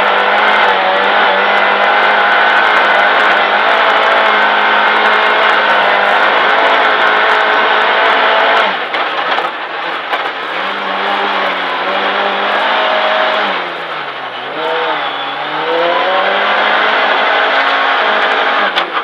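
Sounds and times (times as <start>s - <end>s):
rally car engine revving: 0.0s - 19.0s
tyre and road noise: 0.0s - 19.0s.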